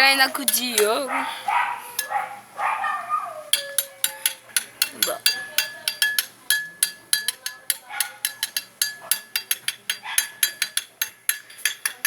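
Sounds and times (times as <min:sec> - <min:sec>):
metal utensil clinking on dish: 0:00.0 - 0:01.2, 0:01.9 - 0:02.4, 0:03.5 - 0:12.0.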